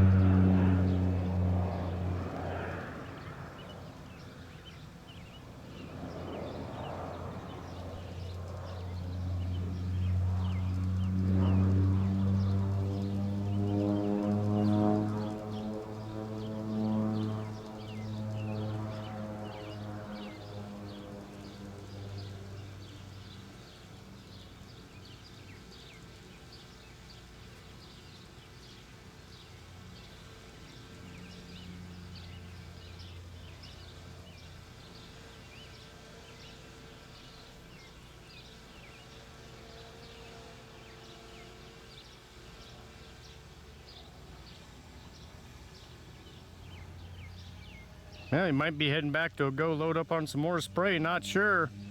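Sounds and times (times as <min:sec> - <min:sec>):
airplane engine drone: 0:00.0 - 0:51.9
birds chirping: 0:00.0 - 0:51.9.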